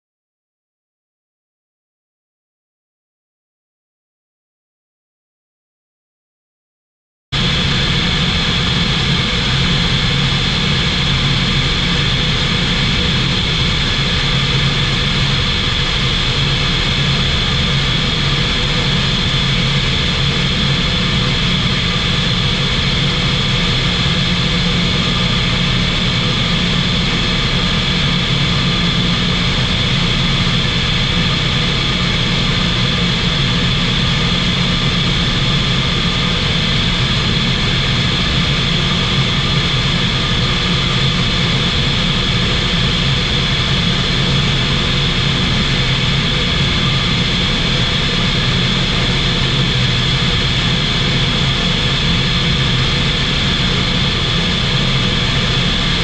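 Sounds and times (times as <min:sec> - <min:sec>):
light aircraft engine droning: 0:07.4 - 0:56.0.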